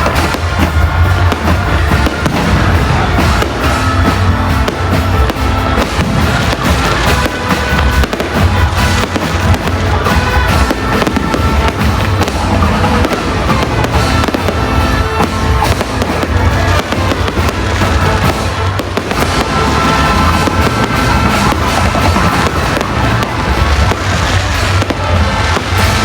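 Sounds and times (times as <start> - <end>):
fireworks bangs and crackles: 0.0 - 26.0
loud music: 0.0 - 26.0.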